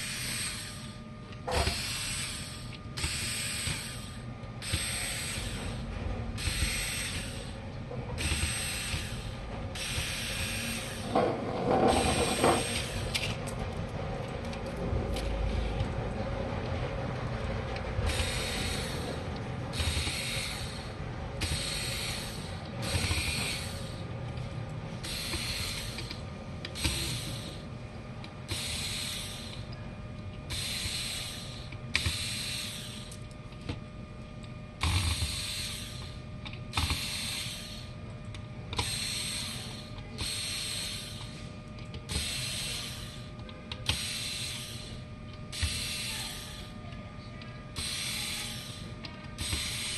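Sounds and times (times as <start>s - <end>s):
small mechanism whirring: 0.0s - 27.7s, 28.4s - 29.8s, 30.4s - 33.8s, 34.8s - 46.8s, 47.8s - 49.9s.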